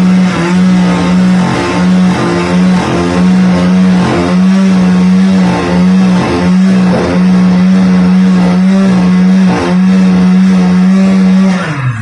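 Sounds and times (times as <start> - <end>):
band sawmill sawing log: 0.0 - 11.8.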